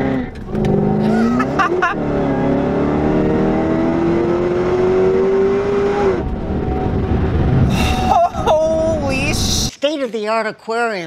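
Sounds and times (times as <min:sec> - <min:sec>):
car engine accelerating: 0:00.0 - 0:09.7.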